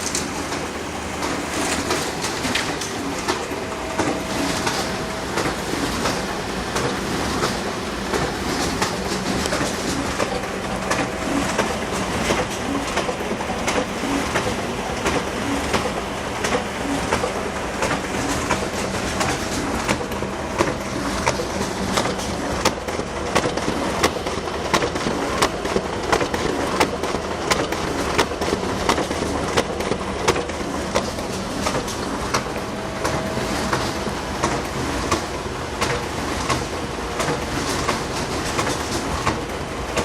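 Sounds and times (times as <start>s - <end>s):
photocopier whirring: 0.0s - 40.0s.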